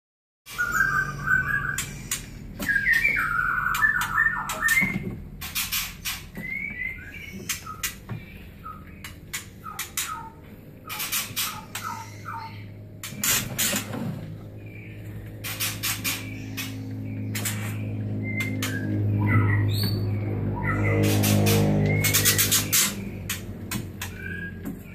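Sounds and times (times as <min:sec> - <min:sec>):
young birds chirping and squawking: 0:00.5 - 0:24.9.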